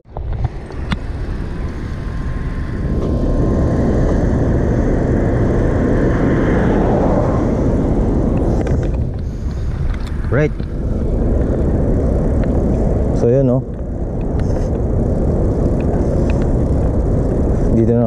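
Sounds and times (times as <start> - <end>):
road traffic rumble: 0.0 - 18.0
faint thin whine: 0.1 - 18.0.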